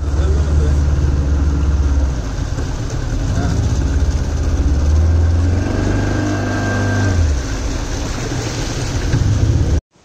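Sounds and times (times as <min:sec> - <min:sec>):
motorboat engine humming: 0:00.0 - 0:09.8
water rushing: 0:00.0 - 0:10.0
wind: 0:00.0 - 0:10.0.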